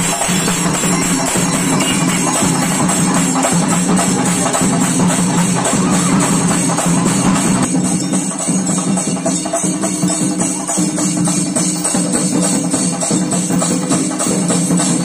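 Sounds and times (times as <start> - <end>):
cymbal clashes: 0.0 - 15.0
drums beaten with sticks: 0.0 - 15.0.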